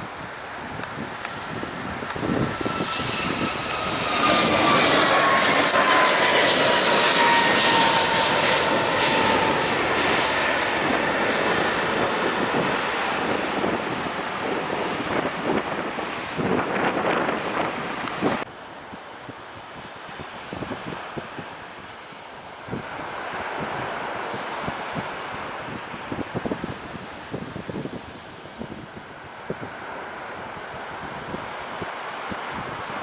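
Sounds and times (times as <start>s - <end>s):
jet airliner passing overhead: 0.0s - 18.5s, 20.7s - 33.0s.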